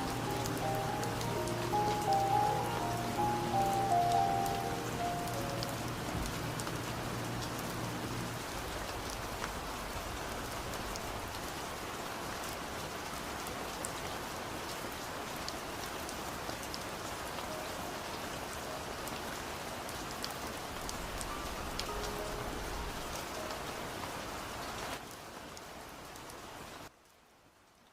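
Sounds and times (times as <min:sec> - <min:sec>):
rain falling and pattering: 0:00.0 - 0:27.9.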